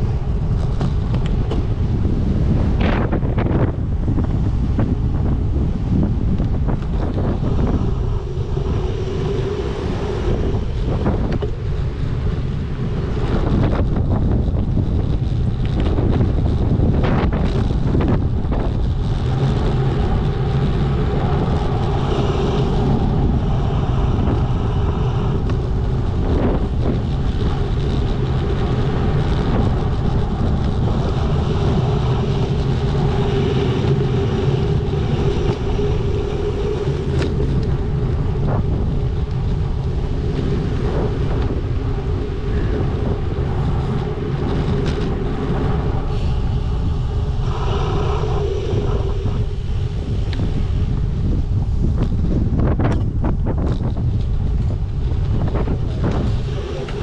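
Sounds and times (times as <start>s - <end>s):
wind rushing over microphone: 0.0s - 57.0s
road traffic noise: 4.1s - 57.0s.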